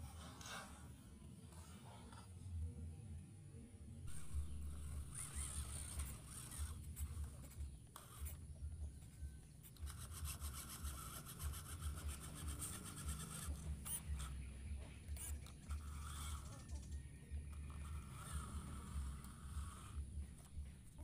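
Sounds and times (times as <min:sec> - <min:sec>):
toy truck motor whining: 0:04.1 - 0:21.0.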